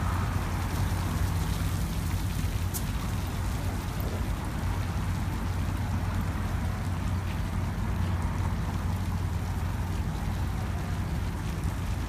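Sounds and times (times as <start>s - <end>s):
water sprinklers hissing: 0.0s - 12.0s.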